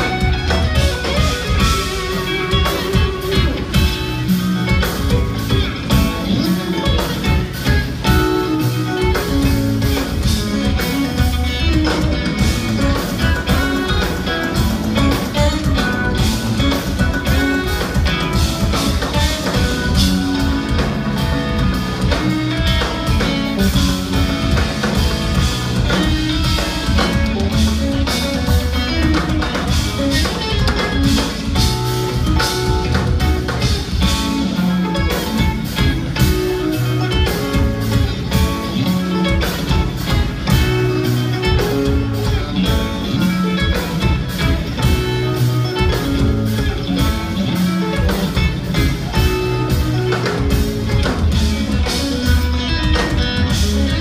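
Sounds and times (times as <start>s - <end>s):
electric guitars: 0.0s - 54.0s
fast dense drumming: 0.0s - 54.0s.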